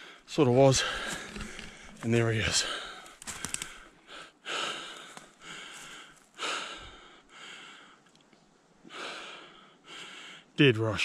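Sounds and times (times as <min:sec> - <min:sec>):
man breathing hard: 0:00.0 - 0:02.0, 0:02.6 - 0:08.1, 0:08.9 - 0:10.6.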